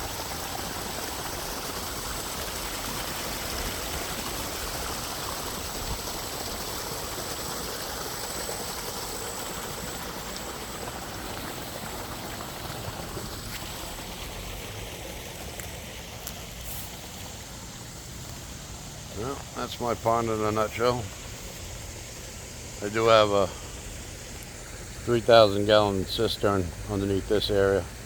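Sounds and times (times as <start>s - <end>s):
waterfall splashing into pond: 0.0s - 28.0s.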